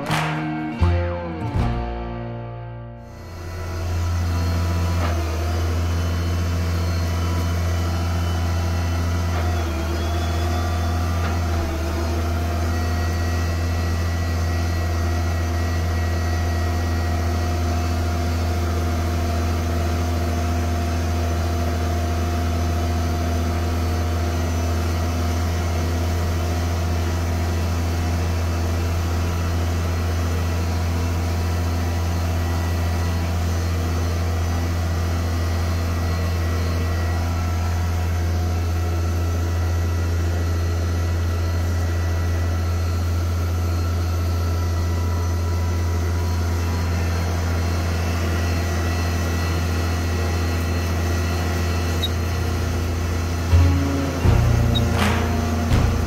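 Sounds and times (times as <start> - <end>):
tractor diesel engine running: 3.1 - 56.0.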